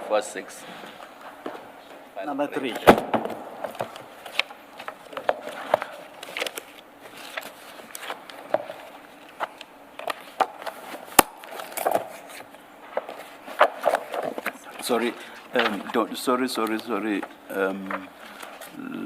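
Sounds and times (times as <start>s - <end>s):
paper pages rustling: 2.6s - 18.8s.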